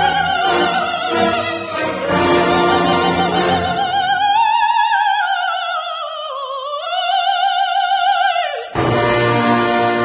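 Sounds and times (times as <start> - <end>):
soprano singing opera: 0.0 - 8.9
opera orchestra: 0.0 - 10.0.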